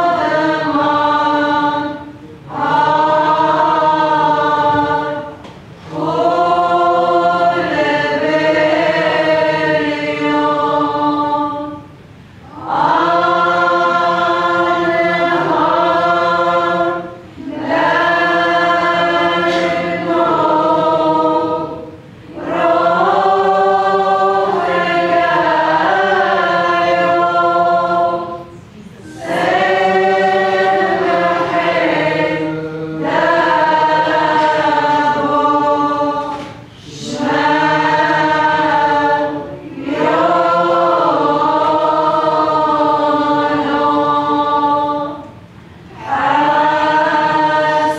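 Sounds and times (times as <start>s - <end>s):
church choir singing a hymn: 0.0s - 47.9s.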